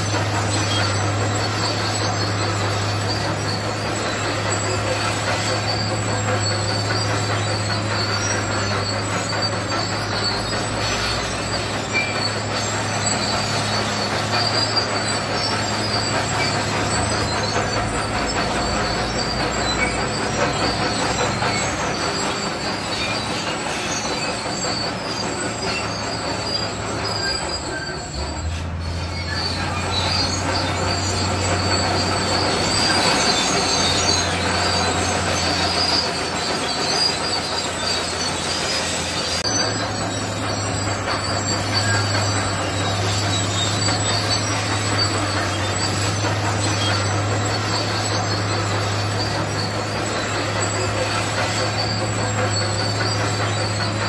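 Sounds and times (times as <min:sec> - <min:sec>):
bulldozer diesel engine: 0:00.0 - 0:54.0
steel tracks clattering and squealing: 0:00.0 - 0:54.0.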